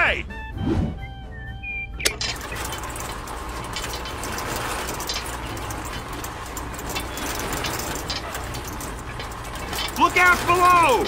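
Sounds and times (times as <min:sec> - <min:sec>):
constant low hum: 0:00.5 - 0:11.0.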